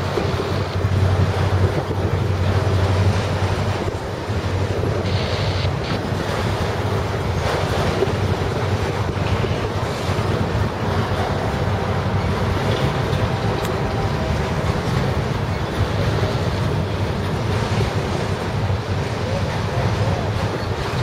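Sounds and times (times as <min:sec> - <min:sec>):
freight train rumbling past: 0:00.0 - 0:21.0
wind buffeting microphone: 0:00.0 - 0:21.0.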